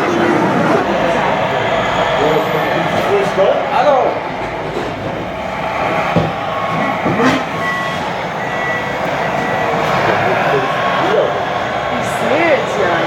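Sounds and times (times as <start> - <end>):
reversing beeper: 0.0 - 12.6
steady outdoor noise: 0.0 - 13.0.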